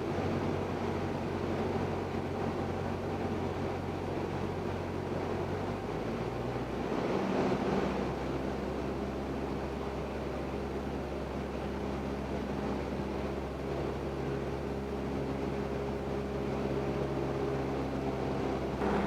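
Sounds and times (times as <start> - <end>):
aircraft engine and propeller droning: 0.0 - 19.0.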